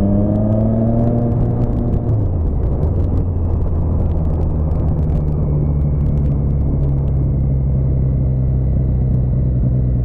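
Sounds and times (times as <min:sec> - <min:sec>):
motorcycle engine running: 0:00.0 - 0:10.0
wind noise: 0:00.0 - 0:10.0.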